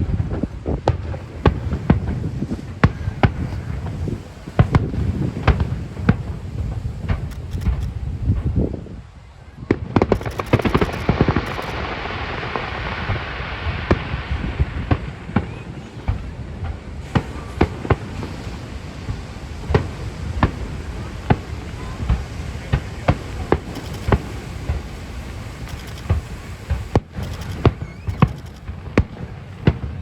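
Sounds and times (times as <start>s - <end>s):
firework shells bursting: 0.0s - 8.6s, 9.7s - 29.9s
hissing crackle: 0.0s - 30.0s.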